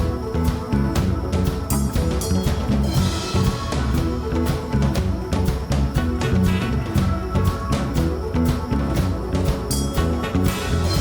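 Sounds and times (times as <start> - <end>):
funk band playing: 0.0 - 11.0.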